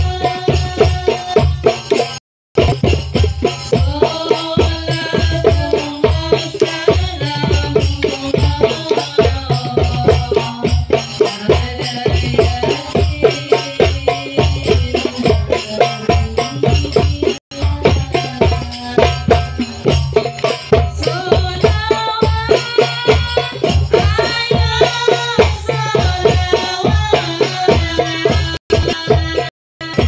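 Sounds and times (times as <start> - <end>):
woman singing through microphone: 0.0 - 1.6, 3.7 - 19.7, 20.8 - 30.0
hand-drum beats: 0.0 - 30.0
jingling rattling percussion: 0.0 - 30.0.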